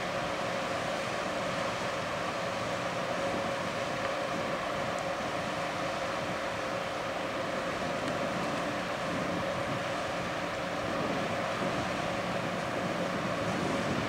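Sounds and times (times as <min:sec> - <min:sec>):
constant hum: 0:00.0 - 0:14.0
ship machinery drone: 0:00.0 - 0:14.0
tugboat diesel engines: 0:00.0 - 0:14.0.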